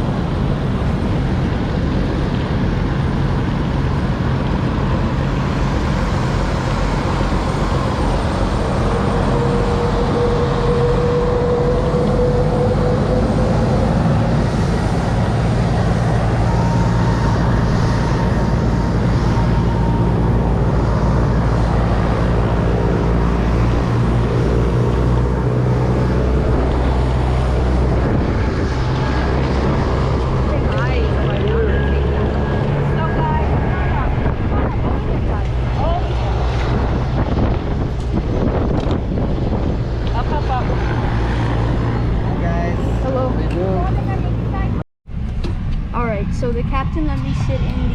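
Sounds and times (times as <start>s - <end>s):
airplane engines droning: 0.0s - 47.9s.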